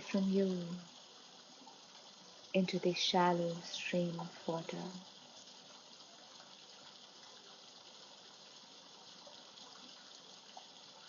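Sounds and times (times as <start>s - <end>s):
waterfall running water: 0.0s - 11.0s.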